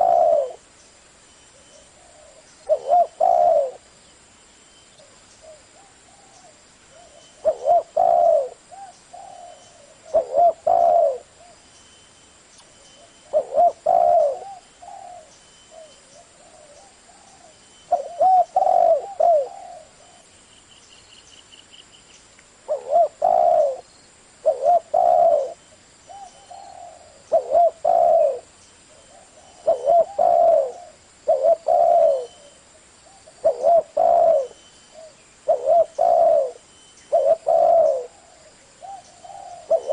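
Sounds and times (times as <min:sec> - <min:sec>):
dove cooing: 0:00.0 - 0:00.7, 0:01.5 - 0:03.9, 0:05.0 - 0:11.6, 0:13.0 - 0:20.3, 0:22.7 - 0:39.9.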